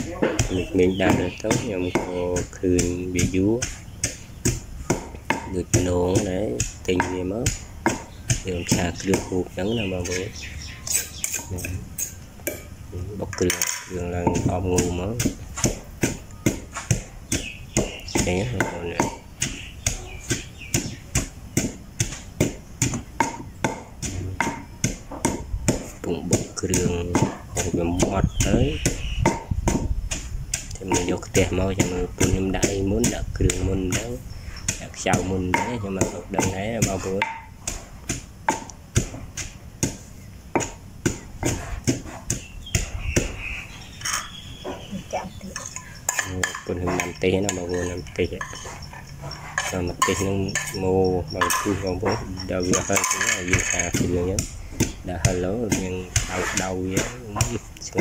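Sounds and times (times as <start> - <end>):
pestle pounding in stone mortar: 0.0 - 58.0.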